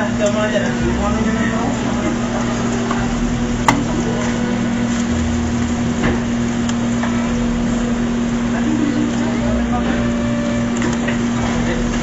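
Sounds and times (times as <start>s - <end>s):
room noise hiss: 0.0s - 12.0s
steady low hum: 0.0s - 12.0s.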